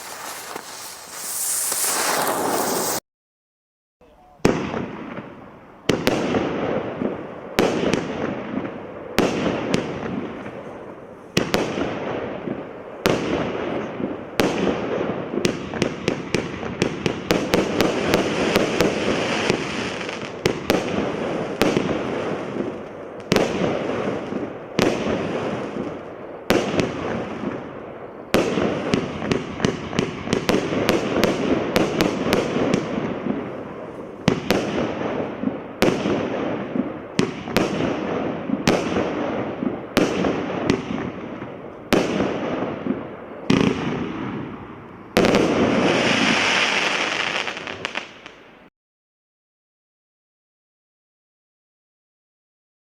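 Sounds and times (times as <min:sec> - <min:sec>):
crackling hiss of fireworks: 0:00.0 - 0:03.0, 0:04.4 - 0:48.7
firework bangs and bursts: 0:00.0 - 0:03.0, 0:04.4 - 0:48.4.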